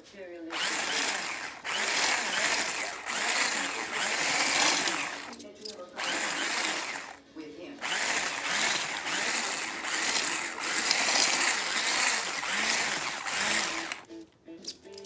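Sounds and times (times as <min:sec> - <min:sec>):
stick blender whirring: 0:00.5 - 0:07.2, 0:07.8 - 0:14.1.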